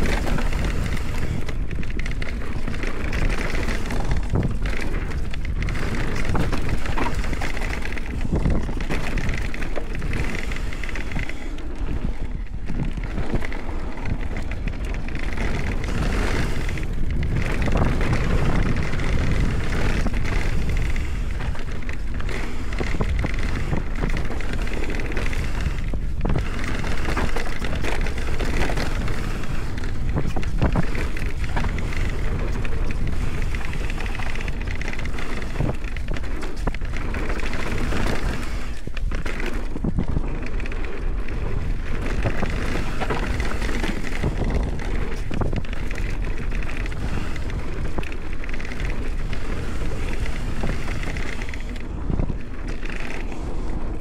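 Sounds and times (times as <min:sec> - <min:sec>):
bike knocking and rattling: 0:00.0 - 0:54.0
wind noise on microphone: 0:00.0 - 0:54.0.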